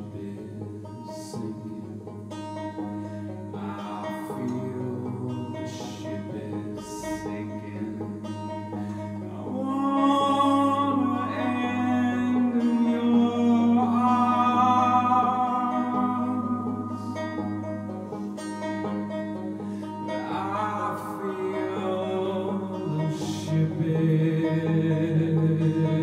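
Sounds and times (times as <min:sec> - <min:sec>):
man singing a folk song: 0:00.0 - 0:26.0
plucked banjo: 0:00.0 - 0:26.0.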